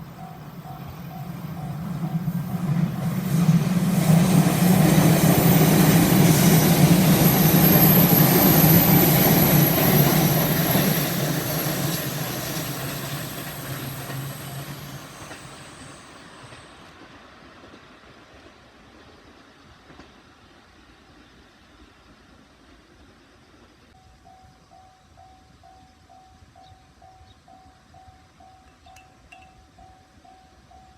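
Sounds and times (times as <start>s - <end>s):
electric train passing: 0.0s - 30.9s.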